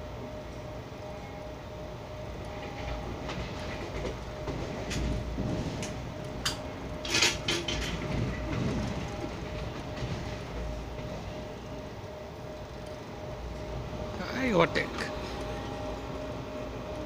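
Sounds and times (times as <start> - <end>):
rumble of train wheels on rail: 0.0 - 17.0.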